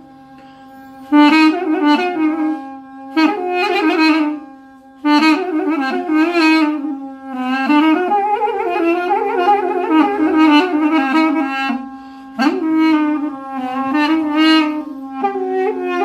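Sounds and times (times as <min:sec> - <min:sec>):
duduk playing slow melody: 0:00.0 - 0:16.0
held drone note: 0:00.0 - 0:16.0.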